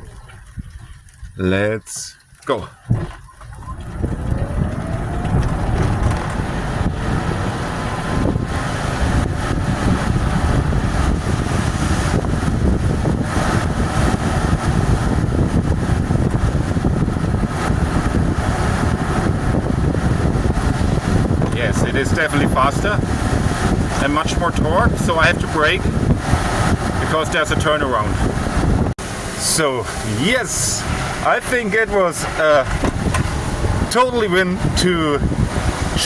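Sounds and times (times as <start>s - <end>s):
tyres and road rumble: 0.0s - 36.0s.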